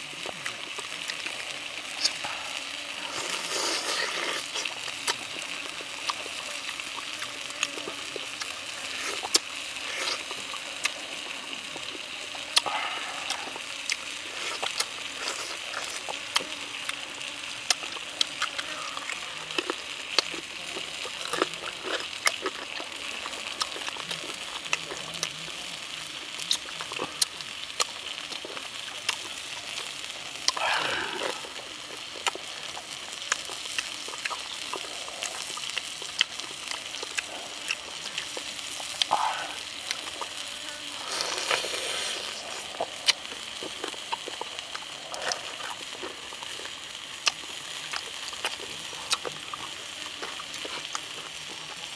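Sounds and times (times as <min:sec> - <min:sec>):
chewing and gnawing: 0:00.0 - 0:51.9
high background hiss: 0:00.0 - 0:51.9.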